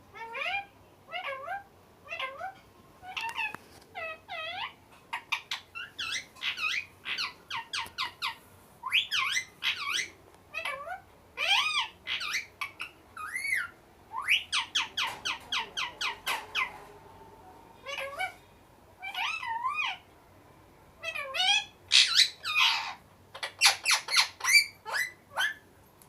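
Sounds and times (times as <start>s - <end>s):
parrot squawking and whistling: 0.2s - 16.7s, 19.0s - 20.0s, 21.0s - 25.6s.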